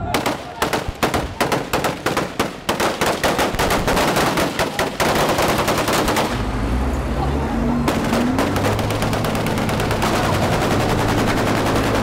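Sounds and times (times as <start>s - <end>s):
automatic rifle gunfire: 0.0s - 6.4s, 7.9s - 12.0s.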